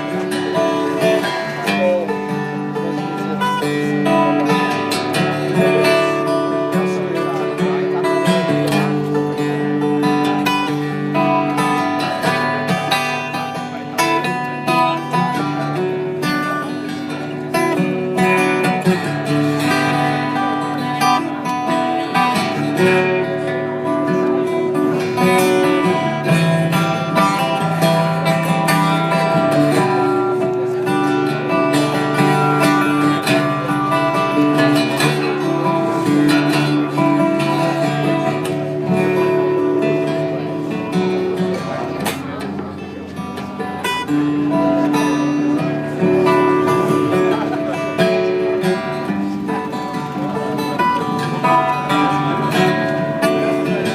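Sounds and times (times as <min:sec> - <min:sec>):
acoustic guitar strumming chords: 0:00.0 - 0:53.9.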